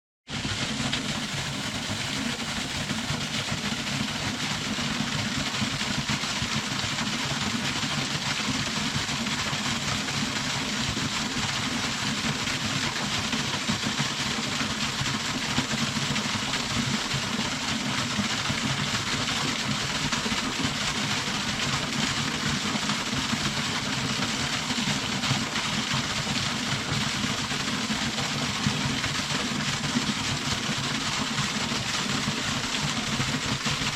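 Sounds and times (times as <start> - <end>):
small waterfall splashing: 0.3 - 33.9.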